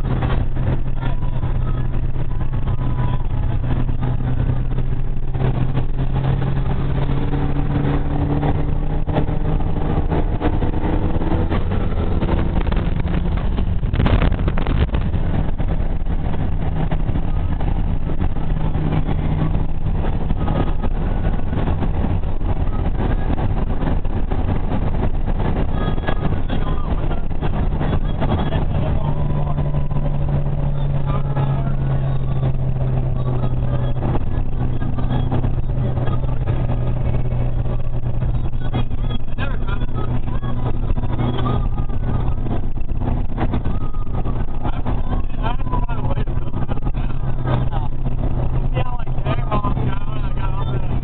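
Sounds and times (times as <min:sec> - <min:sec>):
car engine droning: 0:00.0 - 0:51.0
road noise: 0:00.0 - 0:51.0.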